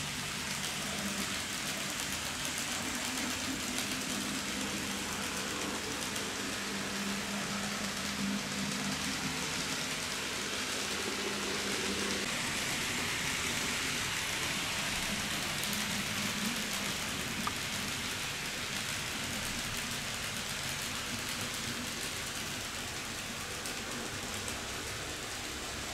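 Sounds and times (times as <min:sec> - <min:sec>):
model train wheels hissing on rails: 0:00.0 - 0:25.9.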